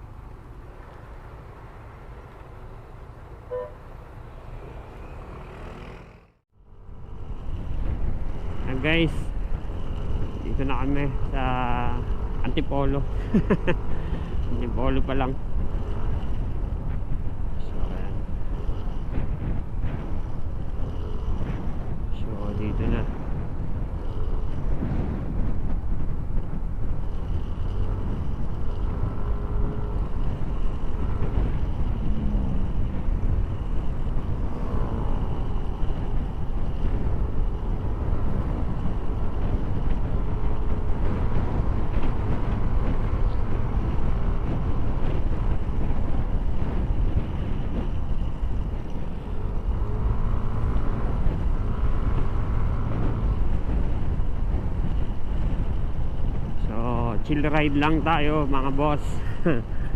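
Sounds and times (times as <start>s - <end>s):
motorcycle engine: 0.0s - 59.9s
wind and road noise: 0.0s - 59.9s.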